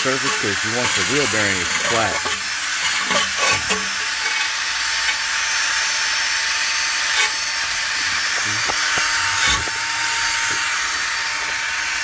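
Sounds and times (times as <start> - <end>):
wire wheel scratching metal: 0.0 - 11.6.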